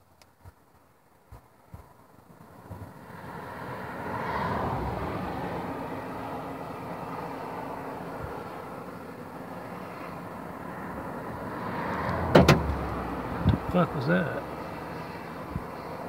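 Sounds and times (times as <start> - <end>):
car passing by: 2.4 - 16.0.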